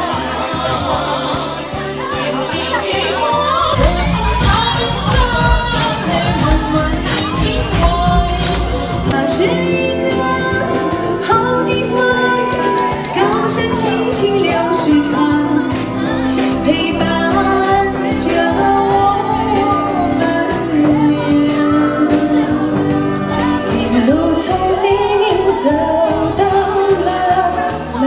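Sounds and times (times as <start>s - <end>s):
live band playing: 0.0s - 28.0s
woman singing into a microphone: 0.0s - 28.0s.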